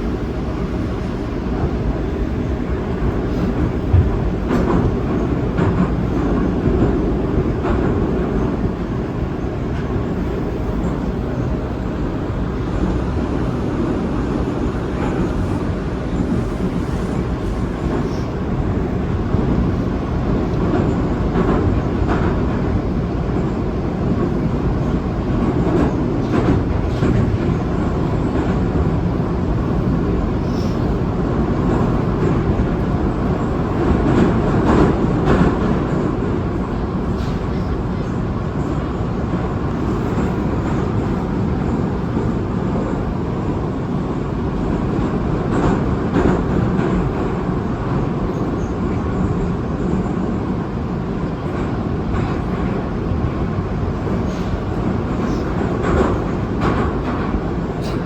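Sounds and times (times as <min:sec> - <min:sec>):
train wheels rumbling on rail: 0:00.0 - 0:58.0
clicks of train wheels: 0:03.1 - 0:11.2, 0:12.5 - 0:58.0.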